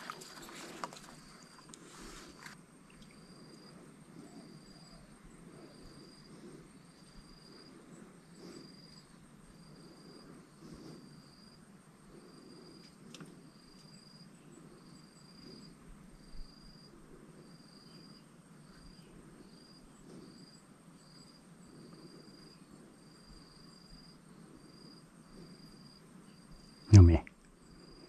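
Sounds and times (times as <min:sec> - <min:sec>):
insect chirping: 0:00.0 - 0:28.0.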